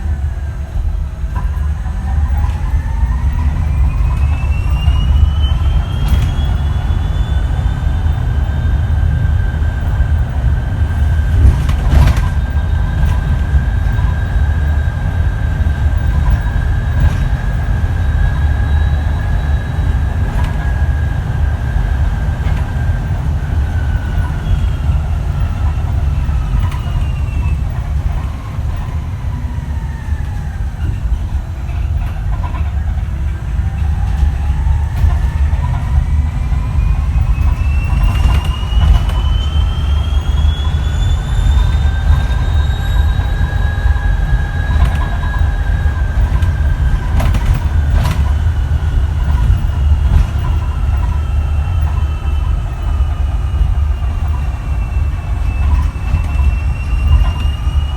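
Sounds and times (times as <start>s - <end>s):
electric bus drive whining: 0.0s - 57.9s.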